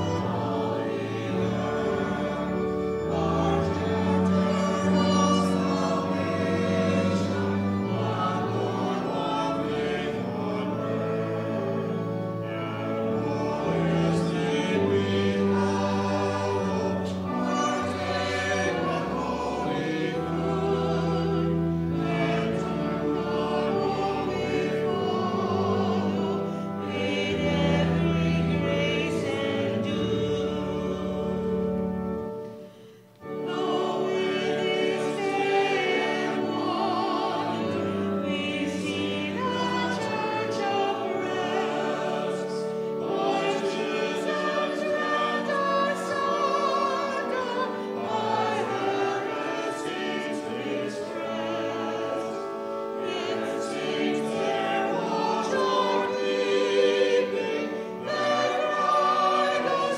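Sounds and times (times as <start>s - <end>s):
instrumental accompaniment: 0.0s - 59.9s
voices singing a hymn: 0.0s - 59.9s.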